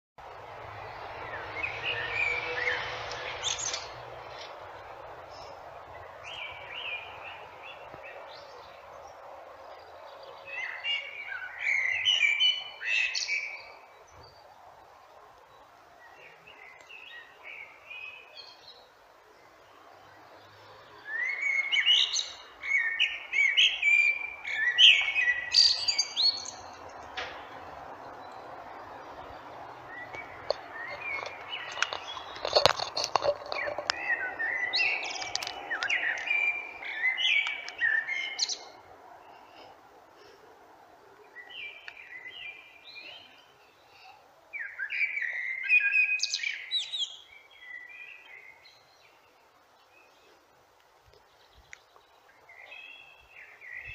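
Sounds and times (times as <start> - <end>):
blackbird singing: 1.2 - 4.0, 5.3 - 8.9, 9.8 - 14.4, 15.6 - 20.3, 21.0 - 38.8, 41.2 - 50.3, 51.2 - 53.9.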